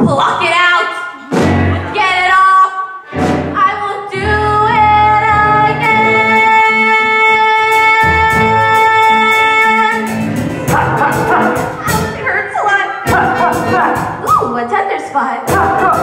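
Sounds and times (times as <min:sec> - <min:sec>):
live band playing: 0:01.1 - 0:02.1, 0:03.0 - 0:14.6, 0:15.5 - 0:16.0
woman singing into microphone: 0:01.8 - 0:10.1, 0:10.7 - 0:16.0.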